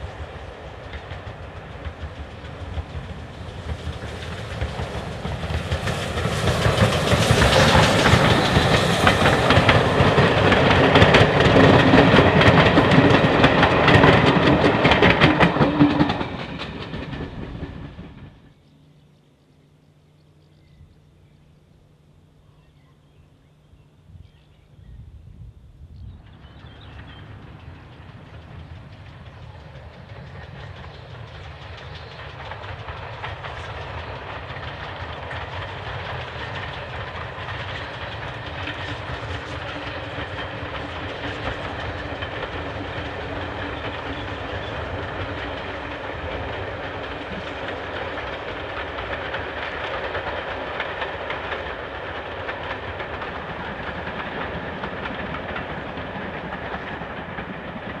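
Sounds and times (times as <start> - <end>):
distant train running: 0.0 - 58.0.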